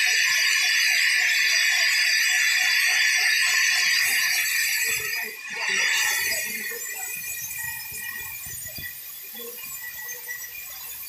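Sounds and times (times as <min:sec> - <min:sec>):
fast rhythmic rattle: 0:00.0 - 0:11.0.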